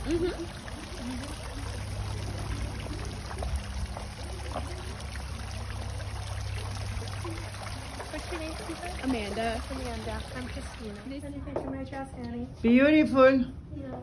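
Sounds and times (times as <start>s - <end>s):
fountain splashing into basin: 0.0s - 11.2s.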